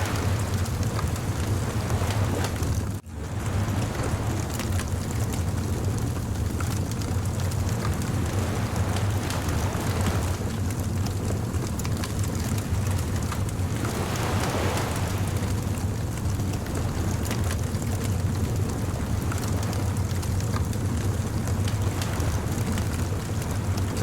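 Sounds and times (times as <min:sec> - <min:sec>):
surf rumbling: 0:00.0 - 0:24.0
wood fire crackling: 0:00.0 - 0:24.0.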